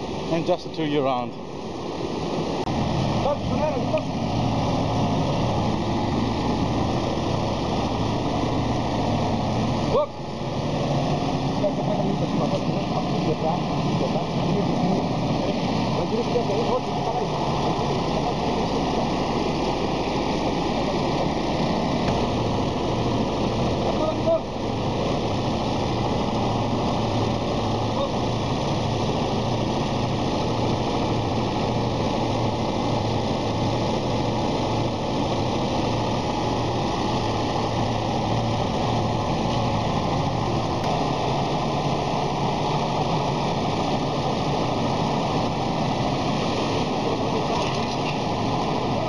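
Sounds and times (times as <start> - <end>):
crane engine running: 0.0 - 49.0.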